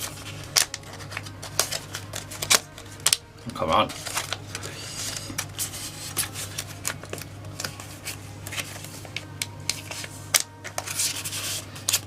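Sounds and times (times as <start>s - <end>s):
cards and packaging crinkling: 0.0s - 12.0s
low steady hum: 0.0s - 12.0s.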